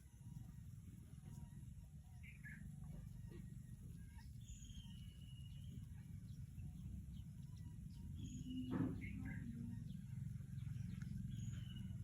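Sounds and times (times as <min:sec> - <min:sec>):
faint bird chirps: 0:00.0 - 0:12.0
steady low rumble: 0:00.0 - 0:12.0.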